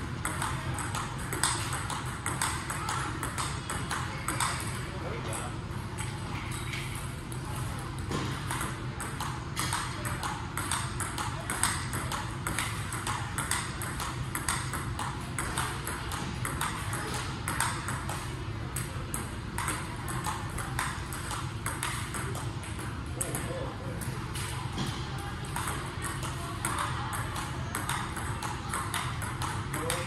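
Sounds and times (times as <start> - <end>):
table tennis balls hitting bats: 0.0 - 30.0.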